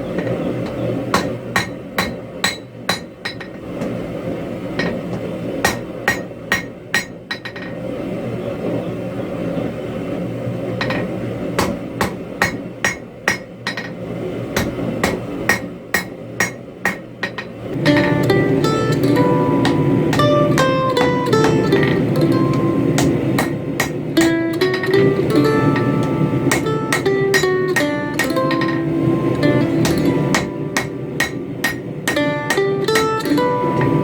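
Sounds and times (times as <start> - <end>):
hammer on hot steel: 0.2 - 3.6, 4.8 - 5.0, 5.6 - 7.8, 10.8 - 14.0, 14.6 - 34.0.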